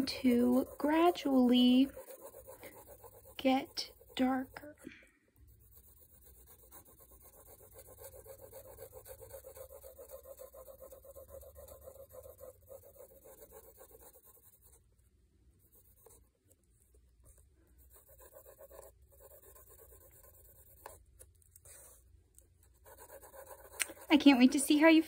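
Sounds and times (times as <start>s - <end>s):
pencil scratching on paper: 0.0s - 25.0s.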